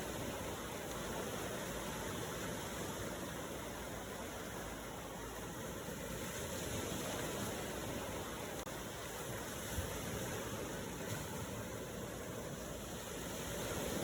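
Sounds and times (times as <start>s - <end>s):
ocean surf washing: 0.0s - 14.0s.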